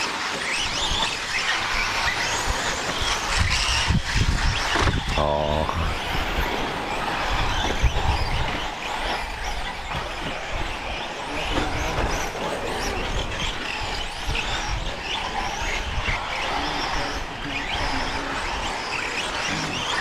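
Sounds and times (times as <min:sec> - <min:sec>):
toy car motors whining: 0:00.0 - 0:20.0.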